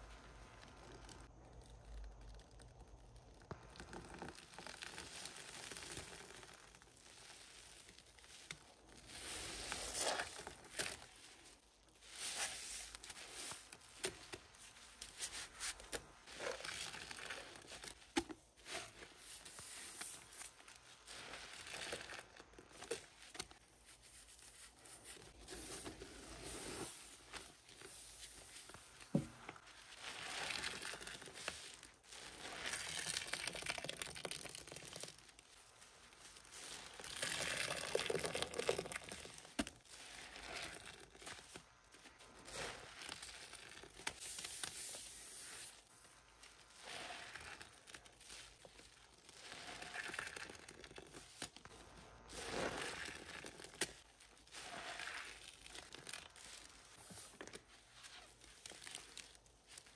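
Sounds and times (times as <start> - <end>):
soapy sponges squeezed: 0.0 - 59.9.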